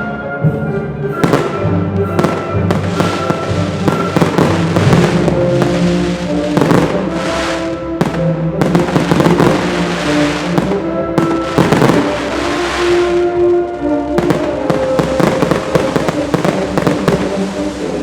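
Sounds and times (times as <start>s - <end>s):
music with held tones: 0.0s - 18.0s
fireworks bursting and crackling: 1.2s - 18.0s.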